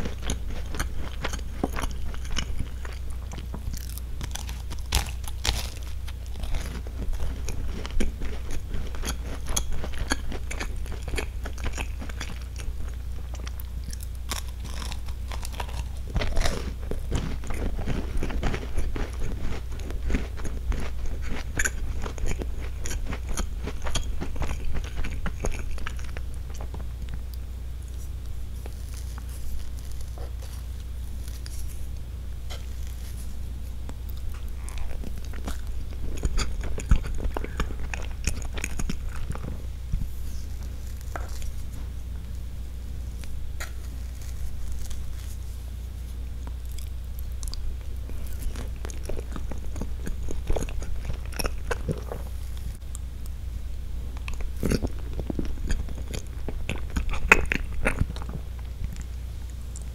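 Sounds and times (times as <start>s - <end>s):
crunching of a crisp biscuit: 0.0s - 41.8s, 43.0s - 53.3s, 54.1s - 59.9s.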